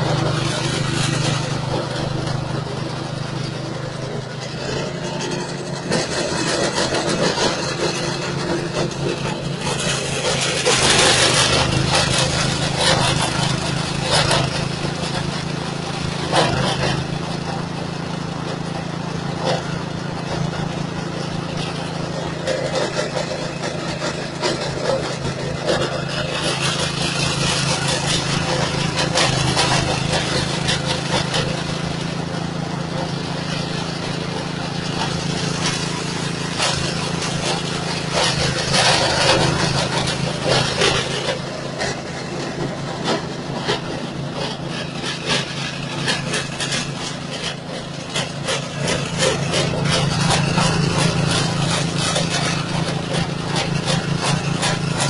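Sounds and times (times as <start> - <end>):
straw chopper-grinder running: 0.0 - 55.0.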